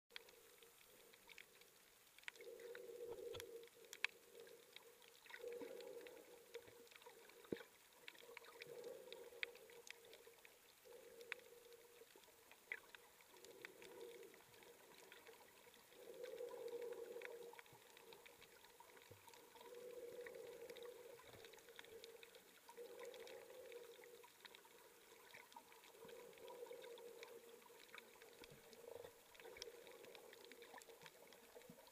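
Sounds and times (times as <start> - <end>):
faint clicks: 0.1 - 31.9.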